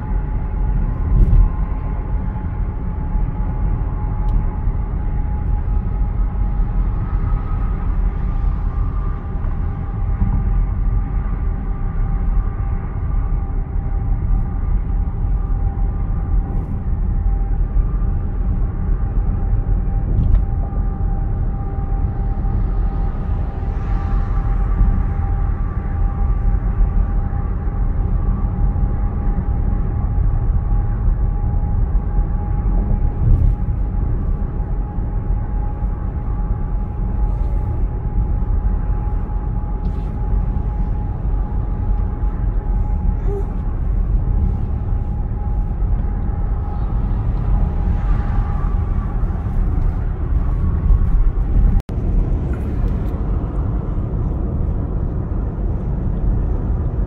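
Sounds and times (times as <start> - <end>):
faint steady whine: 0.0 - 57.0
road and tyre rumble: 0.0 - 57.0.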